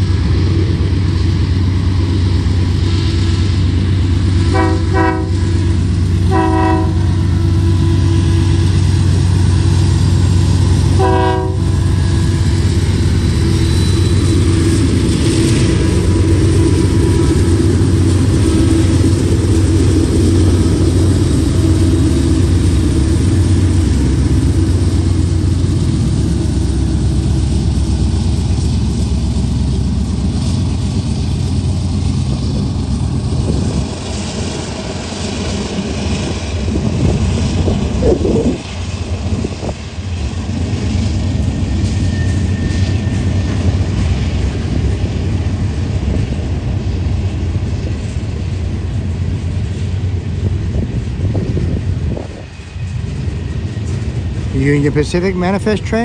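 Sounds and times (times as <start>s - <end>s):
diesel locomotive engines: 0.0s - 56.0s
train wheels rumbling on rails: 0.0s - 56.0s.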